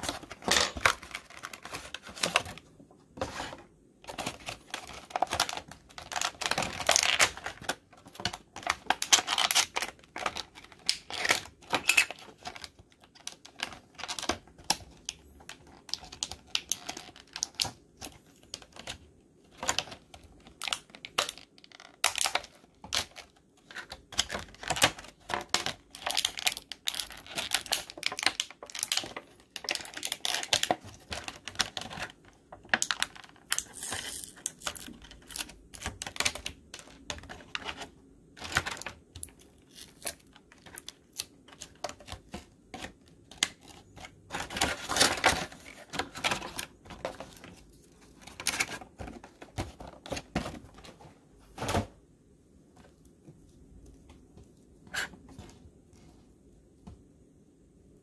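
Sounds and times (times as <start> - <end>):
plastic bags crinkling: 0.0 - 51.0.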